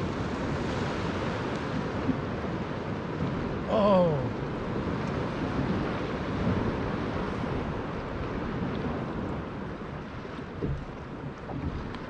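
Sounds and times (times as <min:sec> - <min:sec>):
sea waves: 0:00.0 - 0:12.0
wind: 0:00.0 - 0:12.0
wind buffeting microphone: 0:00.0 - 0:12.0.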